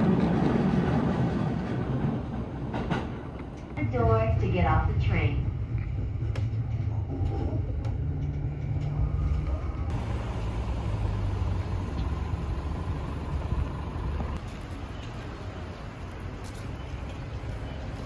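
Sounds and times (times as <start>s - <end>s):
vehicle engine low rumble: 2.7s - 18.0s.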